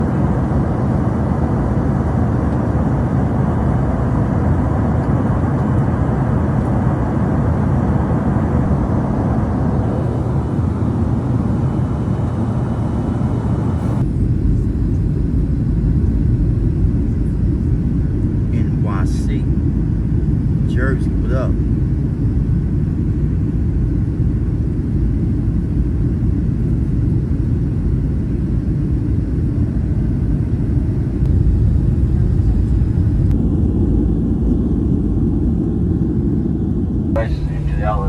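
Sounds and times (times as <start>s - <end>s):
airliner cabin roar: 0.0s - 38.0s.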